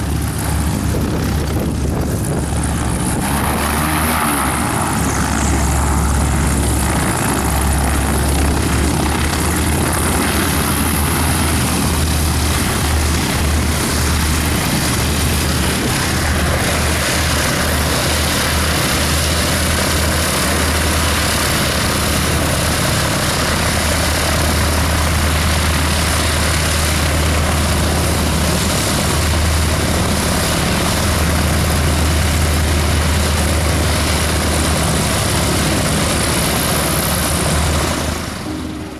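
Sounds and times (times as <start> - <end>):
propeller plane engine idling: 0.0 - 38.9.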